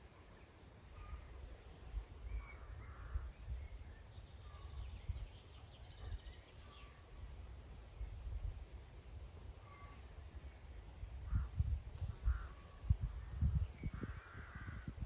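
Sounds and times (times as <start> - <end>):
faint bird chirps: 0.1 - 7.2, 9.4 - 14.9
wind rumble on microphone: 0.9 - 15.0.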